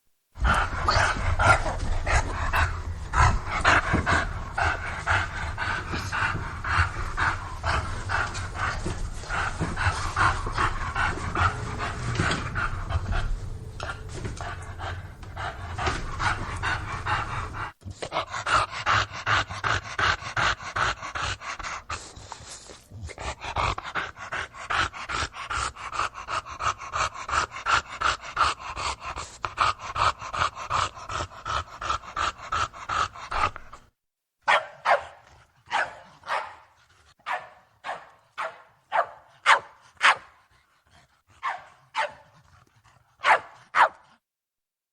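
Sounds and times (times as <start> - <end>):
dog panting: 0.4 - 33.8, 38.0 - 44.2.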